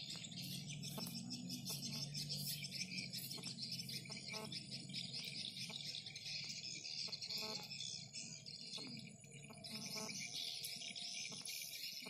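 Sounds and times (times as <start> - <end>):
crickets and cicadas chorus: 0.0 - 12.0.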